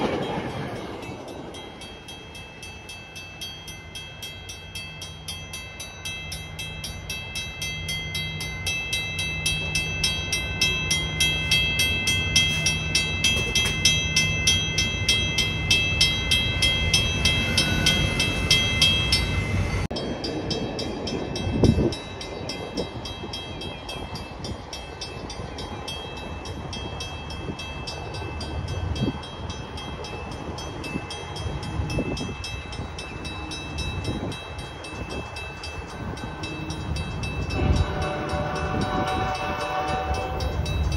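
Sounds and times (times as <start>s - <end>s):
crossing bell ringing: 0.0s - 40.9s
train rumbling: 0.0s - 40.9s.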